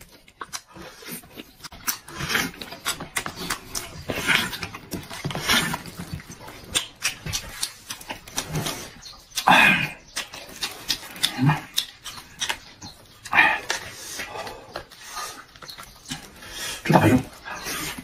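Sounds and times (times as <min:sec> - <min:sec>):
smacking and chewing: 0:00.0 - 0:18.0.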